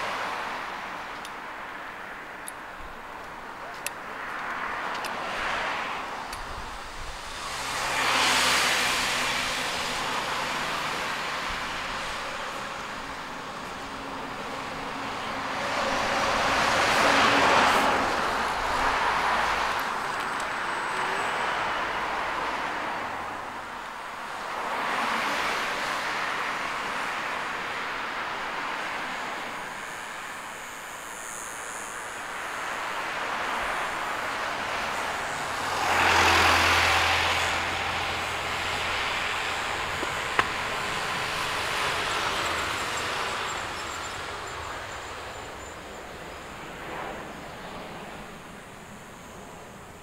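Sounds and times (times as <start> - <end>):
cars passing: 0.0 - 50.0.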